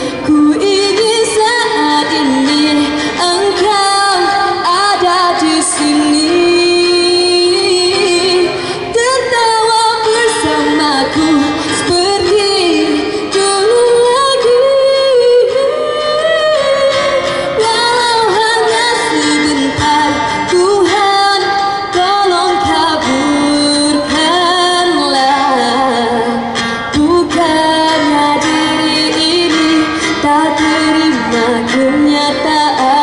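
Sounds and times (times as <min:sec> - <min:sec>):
acoustic guitar: 0:00.0 - 0:33.0
woman singing: 0:00.0 - 0:33.0.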